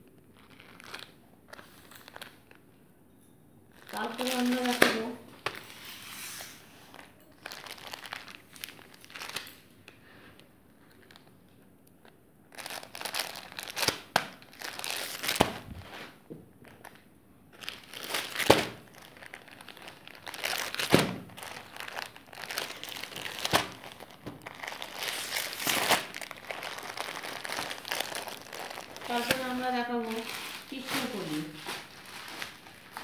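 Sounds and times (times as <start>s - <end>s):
plastic packaging crinkling: 0.0s - 2.7s, 3.7s - 33.0s.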